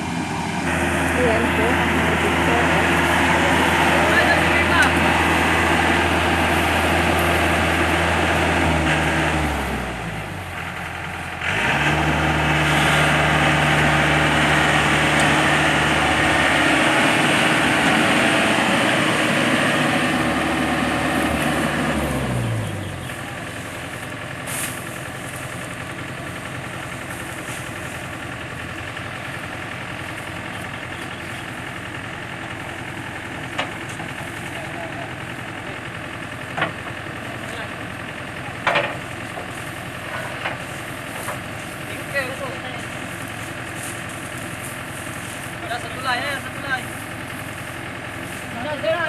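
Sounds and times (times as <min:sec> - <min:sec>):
combine harvester engine revving: 0:00.0 - 0:49.0.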